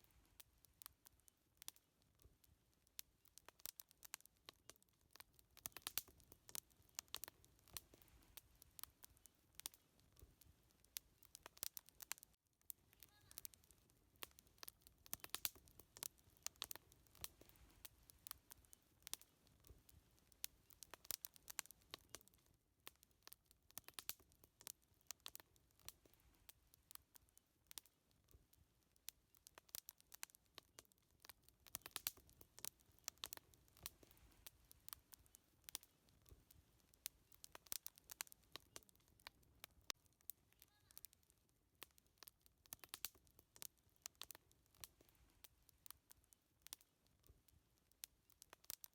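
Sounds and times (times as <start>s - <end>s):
faint low hiss: 0.0s - 48.9s
wood fire crackling: 0.0s - 48.9s
firewood popping and snapping: 0.3s - 48.9s.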